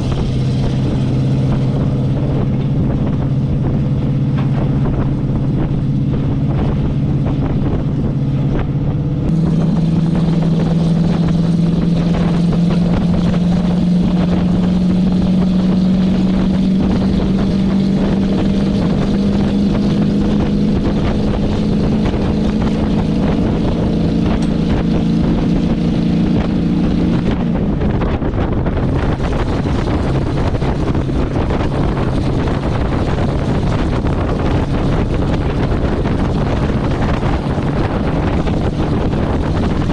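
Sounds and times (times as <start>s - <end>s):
truck engine pulling under load: 0.0s - 39.9s
wind noise: 0.0s - 39.9s.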